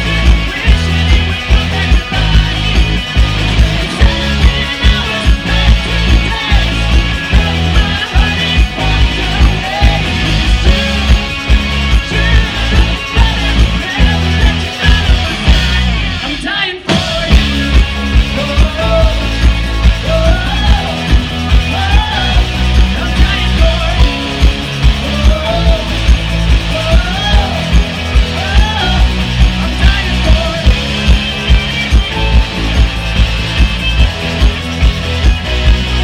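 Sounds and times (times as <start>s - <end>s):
person singing: 0.0s - 33.0s
drum kit beat: 0.0s - 36.0s
electric guitar: 0.0s - 36.0s.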